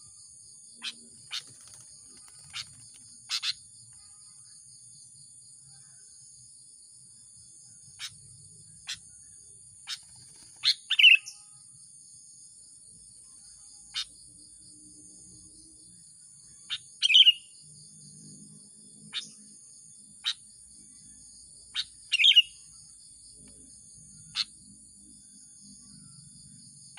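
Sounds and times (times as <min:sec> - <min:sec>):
high insect trill: 0:00.0 - 0:26.9.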